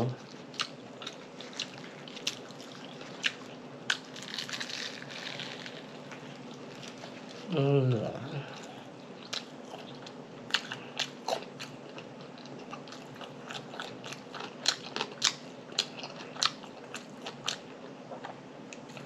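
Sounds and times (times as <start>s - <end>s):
faint steady hum: 0.0s - 19.0s
crunchy food chewing: 0.1s - 7.5s, 8.4s - 19.0s.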